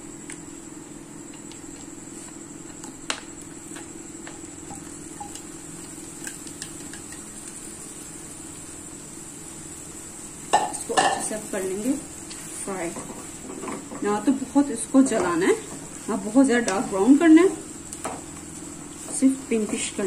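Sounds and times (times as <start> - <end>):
steady background hum: 0.0 - 20.0
onions popping in hot oil: 2.6 - 20.0.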